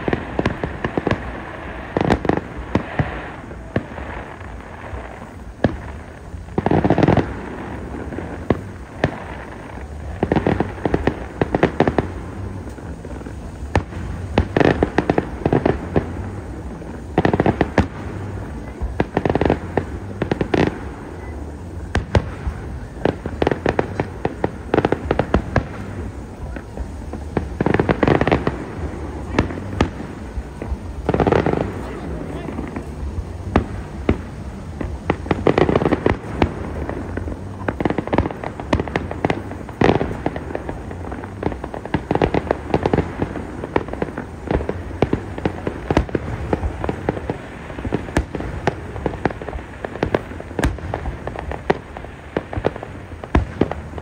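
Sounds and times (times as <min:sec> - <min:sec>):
fireworks banging and crackling: 0:00.0 - 0:54.0.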